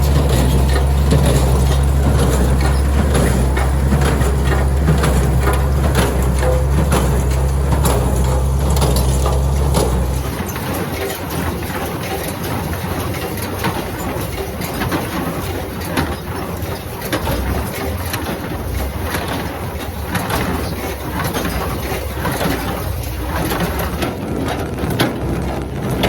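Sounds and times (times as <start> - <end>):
baler running: 0.0 - 26.0.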